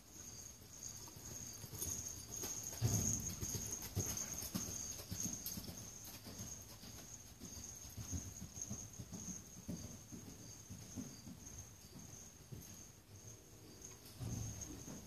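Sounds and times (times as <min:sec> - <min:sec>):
hooves thudding on soft dirt: 0:00.0 - 0:15.0.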